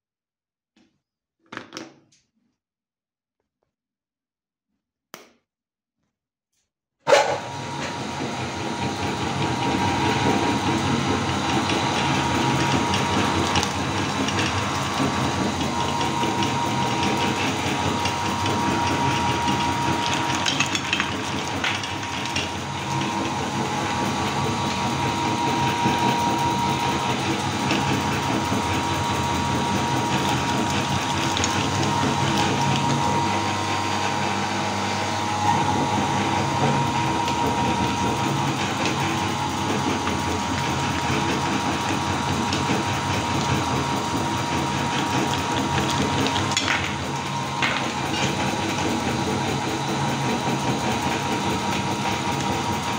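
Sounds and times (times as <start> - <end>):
meat grinder motor whining: 7.1 - 52.9
cookies crackling in grinder: 7.5 - 34.8, 35.5 - 52.9.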